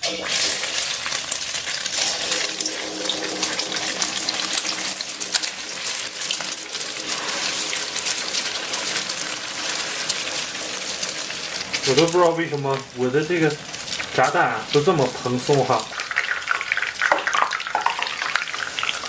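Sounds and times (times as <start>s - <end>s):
egg sizzling in hot oil: 0.0s - 19.0s.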